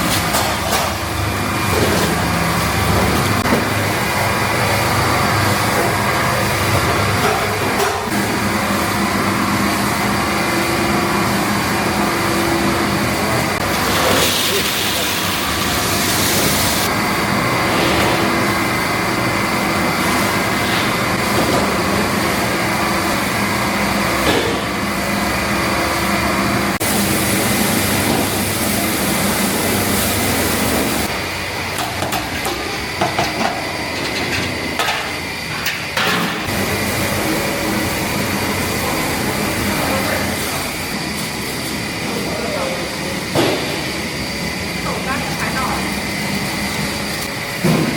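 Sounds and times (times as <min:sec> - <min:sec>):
factory machinery din: 0:00.0 - 0:47.9.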